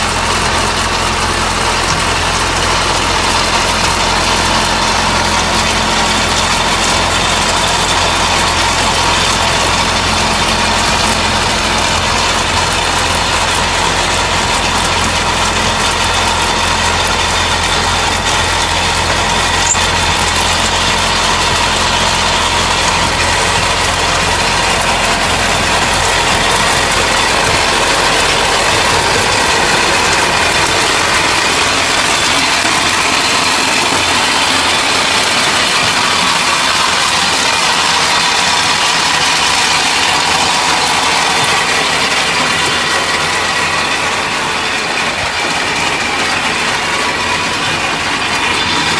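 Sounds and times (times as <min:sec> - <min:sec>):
clatter of soil and stones: 0:00.0 - 0:48.9
tractor diesel engine: 0:00.0 - 0:48.9.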